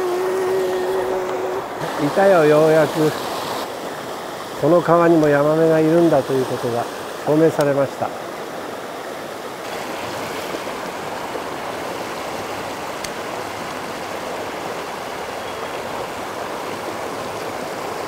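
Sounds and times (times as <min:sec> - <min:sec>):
mountain stream flowing: 0:00.0 - 0:18.0.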